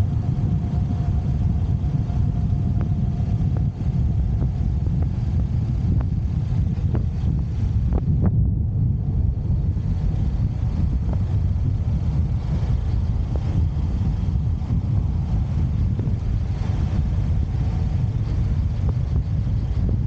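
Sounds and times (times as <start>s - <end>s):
road noise: 0.0s - 20.0s
wind rumble on microphone: 0.0s - 20.0s.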